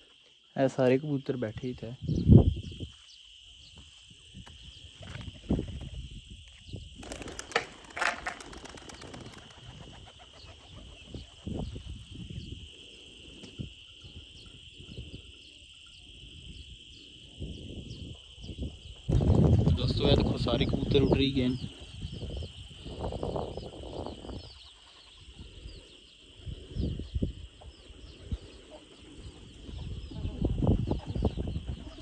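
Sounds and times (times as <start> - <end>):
crickets chirring: 0.0 - 32.0
wind rumbling on microphone: 2.0 - 2.9, 3.6 - 15.4, 16.1 - 32.0.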